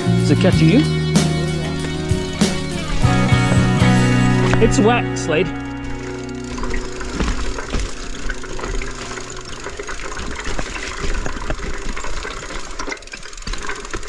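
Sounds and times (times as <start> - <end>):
bike rattling on rough trail: 0.0 - 14.0.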